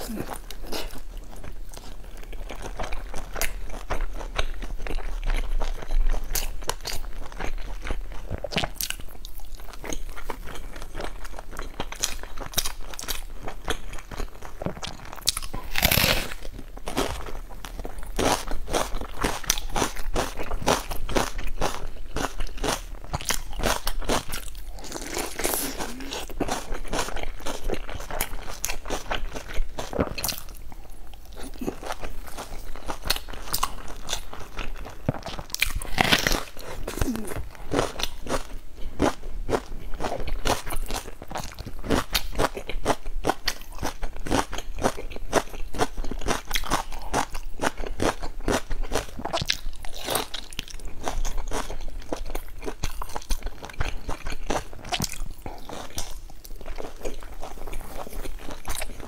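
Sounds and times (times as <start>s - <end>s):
person chewing dumplings: 0.0s - 59.0s.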